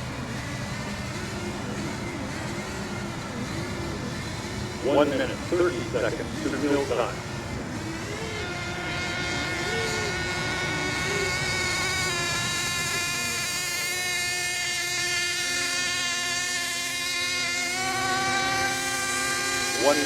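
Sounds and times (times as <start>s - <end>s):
model boat engines whining: 0.0s - 20.0s.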